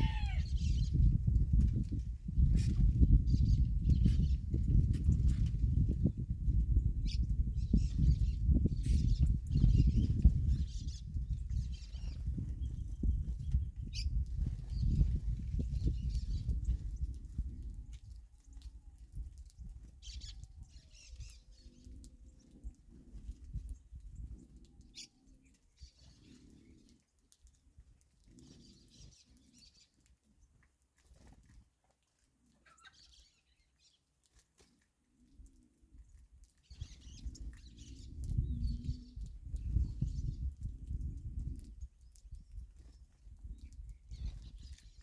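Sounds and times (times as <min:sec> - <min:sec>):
small birds chirping: 0:00.0 - 0:31.6, 0:32.3 - 0:45.0.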